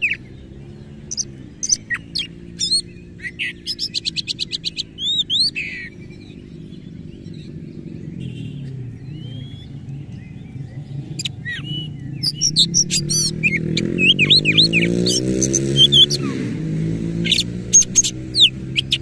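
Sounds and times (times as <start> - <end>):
bird singing chirps and whistles: 0.0 - 19.0.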